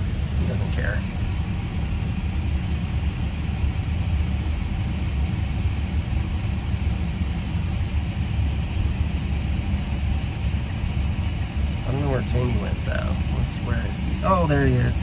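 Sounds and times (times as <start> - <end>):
climate blower hissing: 0.0 - 15.0
low rumble of moving car: 0.0 - 15.0.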